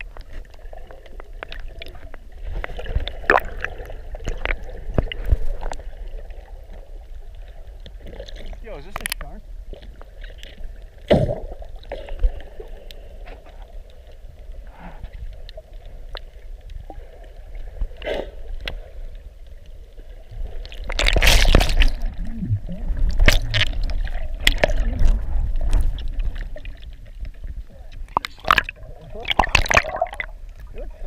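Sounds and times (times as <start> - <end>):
water sloshing and gurgling: 0.0 - 31.0.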